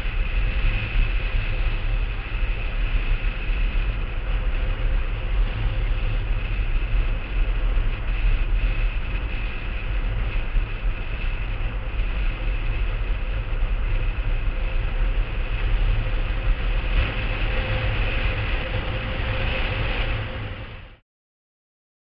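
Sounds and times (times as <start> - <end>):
faint steady whine: 0.0 - 21.0
wheels rumbling over hard ground: 0.0 - 21.0
wind buffeting microphone: 0.0 - 21.0.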